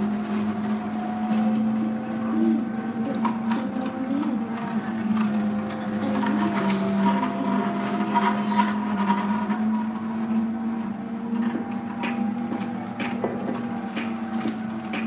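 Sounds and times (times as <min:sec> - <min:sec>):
juicer motor humming: 0:00.0 - 0:15.0.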